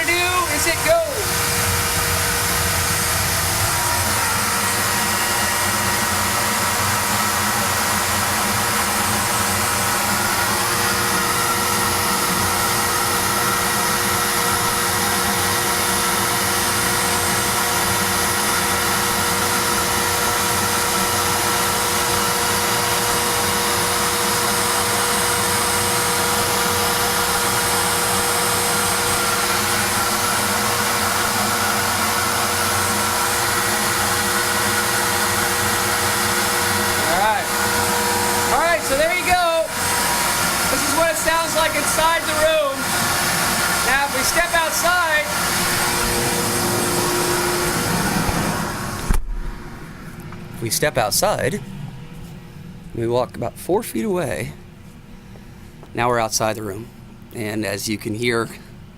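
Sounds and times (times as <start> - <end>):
router spindle whining: 0.0 - 49.3
dust collector rushing: 0.0 - 49.9.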